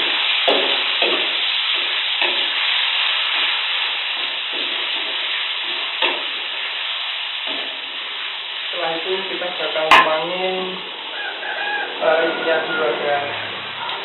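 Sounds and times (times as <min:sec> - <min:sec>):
paste sizzling in hot oil: 0:00.0 - 0:12.7.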